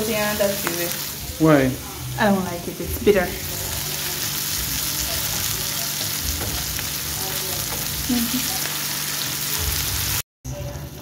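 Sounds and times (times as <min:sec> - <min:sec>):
vegetables sizzling in oil: 0:00.0 - 0:10.2.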